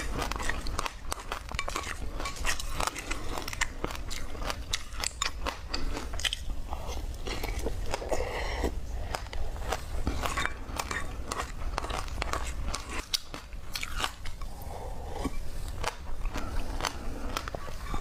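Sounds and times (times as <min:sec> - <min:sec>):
chewing fruit seeds crunching: 0:00.0 - 0:18.0.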